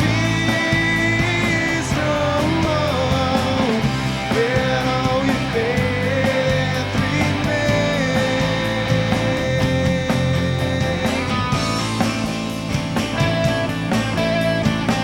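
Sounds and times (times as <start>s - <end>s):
bass: 0.0s - 15.0s
drum beat: 0.0s - 15.0s
electric guitar melody: 0.0s - 15.0s.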